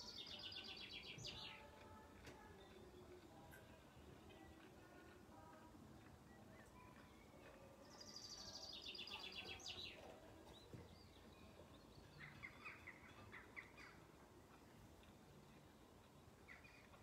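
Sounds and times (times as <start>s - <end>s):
faint background hiss: 0.0s - 17.0s
songbird singing: 0.0s - 17.0s.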